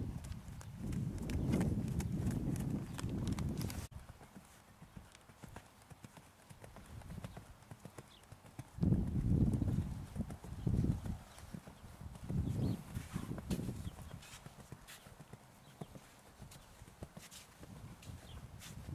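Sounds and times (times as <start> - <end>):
horse hoofbeats on sand: 0.0 - 18.9.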